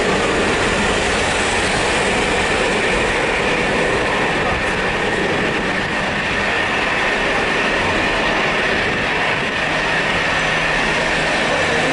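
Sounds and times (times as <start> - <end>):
jet engines rushing: 0.0 - 11.9.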